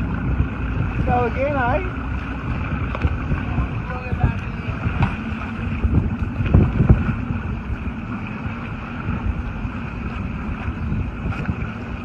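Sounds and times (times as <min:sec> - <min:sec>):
heavy low thumps: 0:00.0 - 0:11.9
steady low hum: 0:00.0 - 0:12.0
wind buffeting microphone: 0:00.0 - 0:12.0.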